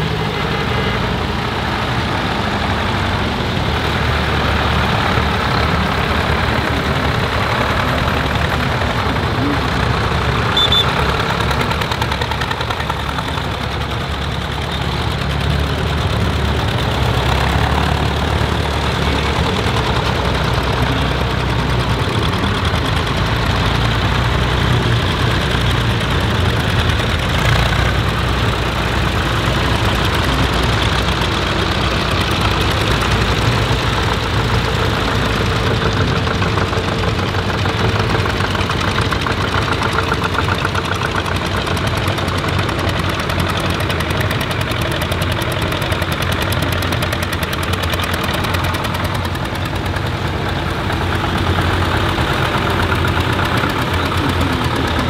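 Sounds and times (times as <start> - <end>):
tractor engines at low revs: 0.0 - 55.0.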